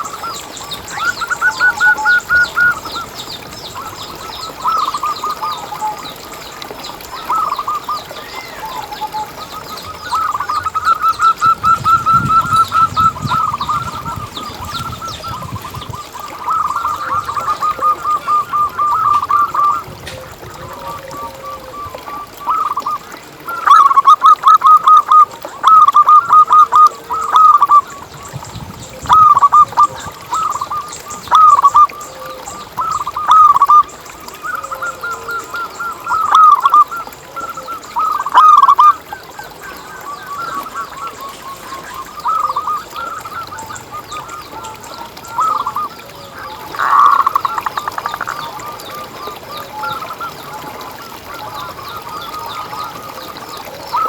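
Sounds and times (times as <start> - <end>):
dove cooing: 7.3 - 28.0, 28.9 - 39.0, 39.6 - 54.0.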